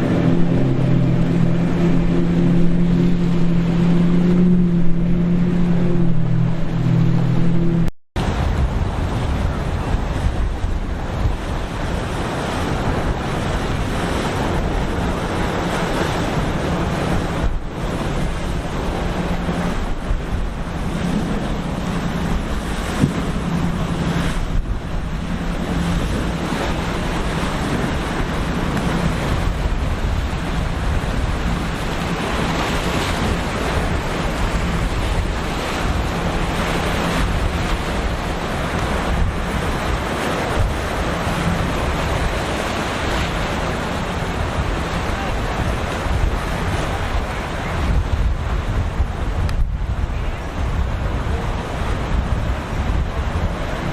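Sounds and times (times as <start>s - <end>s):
boat engines droning: 0.0s - 53.9s
surf breaking: 0.0s - 53.9s
wind buffeting microphone: 0.0s - 53.9s.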